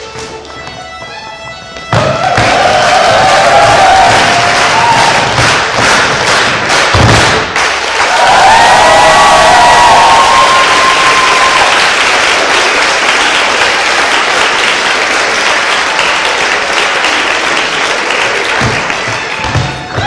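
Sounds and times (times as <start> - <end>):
audience applauding: 2.1 - 20.0.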